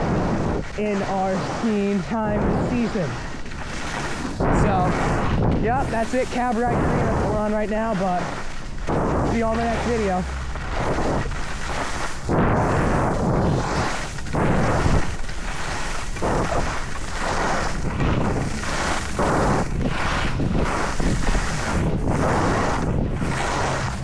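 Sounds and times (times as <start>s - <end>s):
skis scraping across snow: 0.0s - 24.0s
wind buffeting microphone: 0.0s - 24.0s.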